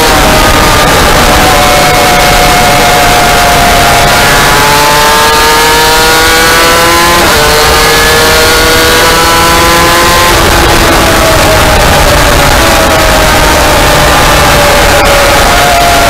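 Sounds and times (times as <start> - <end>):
motorcycle engine revving: 0.0 - 16.0
wind noise on microphone: 0.0 - 16.0.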